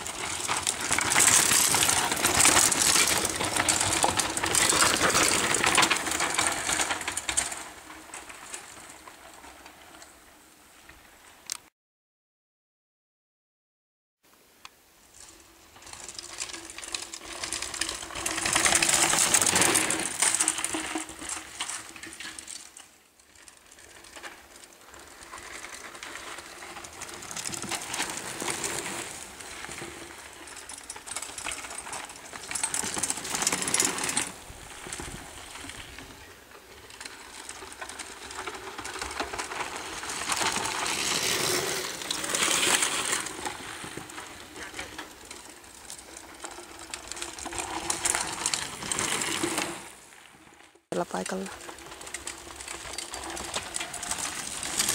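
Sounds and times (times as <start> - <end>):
bike rattling over roots and stones: 0.0 - 11.4, 15.0 - 54.9.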